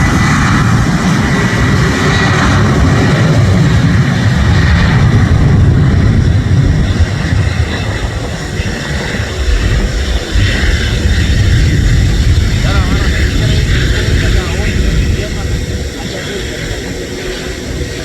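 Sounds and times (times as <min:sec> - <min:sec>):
jet engines at takeoff thrust: 0:00.0 - 0:18.0.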